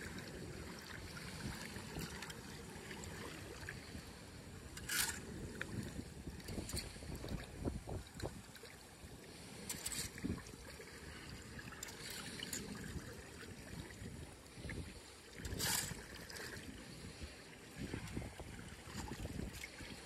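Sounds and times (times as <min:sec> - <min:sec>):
wind rumbling on microphone: 0:00.0 - 0:11.8, 0:12.6 - 0:20.0.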